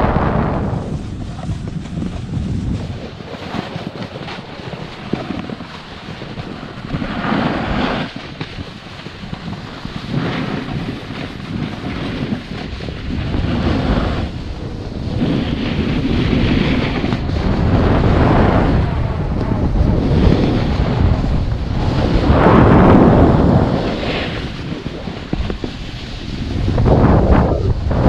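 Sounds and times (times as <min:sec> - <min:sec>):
snowboard scraping over snow: 0:00.0 - 0:28.0
wind buffeting microphone: 0:00.0 - 0:28.0.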